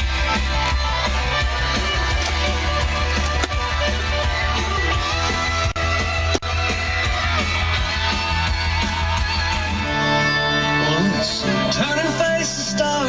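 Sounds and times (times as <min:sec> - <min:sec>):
rock music on car stereo: 0:00.0 - 0:13.0.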